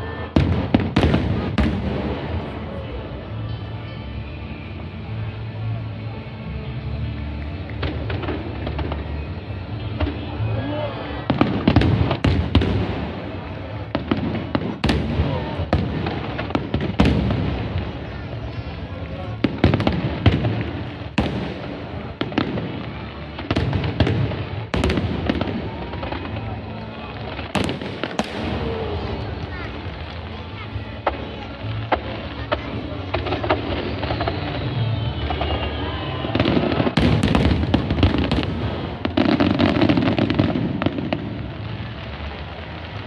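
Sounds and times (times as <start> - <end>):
fireworks bangs: 0.0 - 4.0, 7.6 - 43.0
fireworks crackle and rumble: 0.0 - 43.0.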